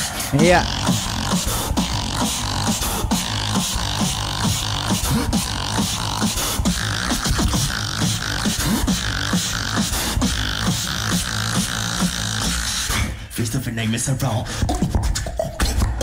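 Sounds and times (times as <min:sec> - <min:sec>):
vocal bass line sliding down: 0:00.0 - 0:12.9
vocal kick and snare beat: 0:00.0 - 0:13.2, 0:14.5 - 0:16.0.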